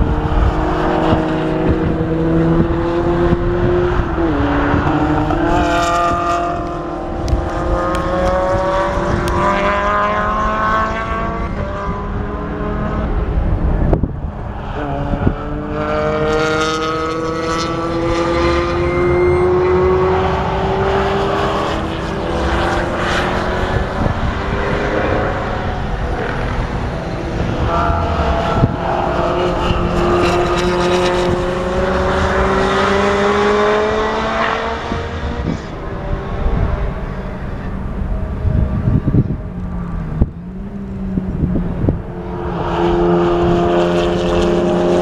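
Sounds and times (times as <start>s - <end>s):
racing car engines accelerating: 0.0s - 45.0s.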